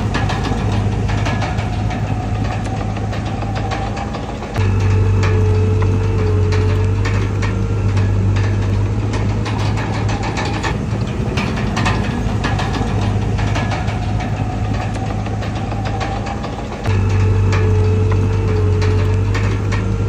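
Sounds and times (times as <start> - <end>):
bulldozer diesel engine running: 0.0 - 20.0
clatter: 0.0 - 20.0.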